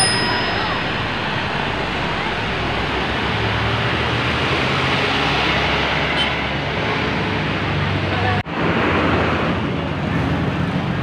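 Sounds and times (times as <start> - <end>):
heavy vehicle engine drone: 0.0 - 11.0
road noise: 0.0 - 11.0.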